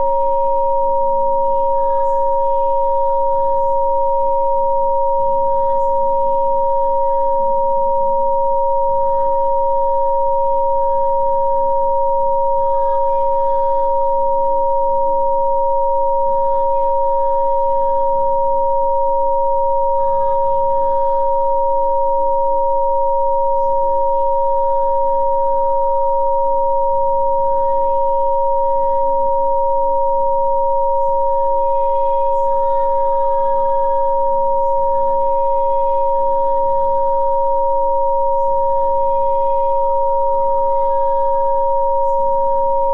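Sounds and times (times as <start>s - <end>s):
steady pure electronic tones: 0.0s - 42.9s.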